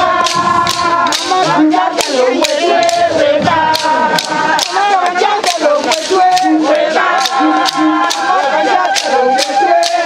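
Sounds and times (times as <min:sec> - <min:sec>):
women singing together: 0:00.0 - 0:10.0
wooden clappers knocking: 0:00.2 - 0:10.0.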